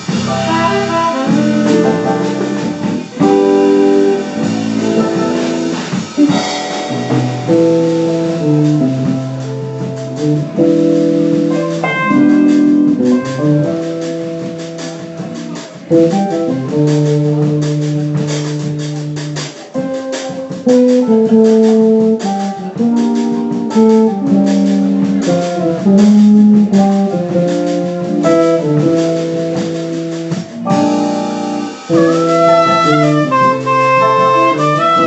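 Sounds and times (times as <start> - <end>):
guitar: 0.0 - 35.0
held melody line: 0.0 - 35.0
jazz group playing bossa nova: 0.0 - 35.0
light steady percussion: 0.0 - 35.0.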